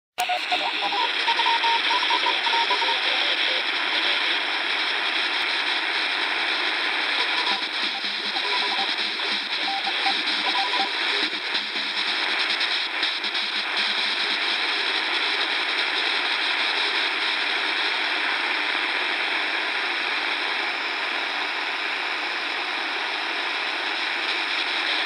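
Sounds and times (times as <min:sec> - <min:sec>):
shortwave radio static: 0:00.2 - 0:25.0.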